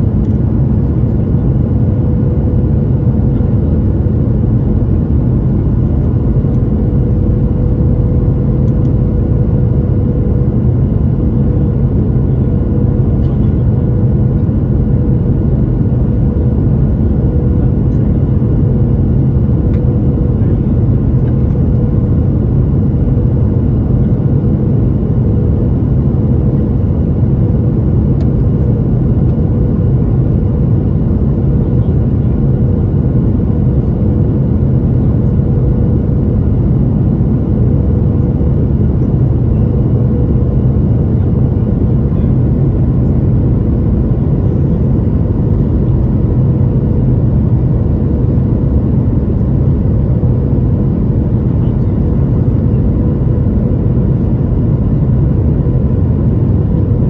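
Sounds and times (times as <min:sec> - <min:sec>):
faint steady hum: 0:00.0 - 0:57.0
jet engines rumbling: 0:00.0 - 0:57.0.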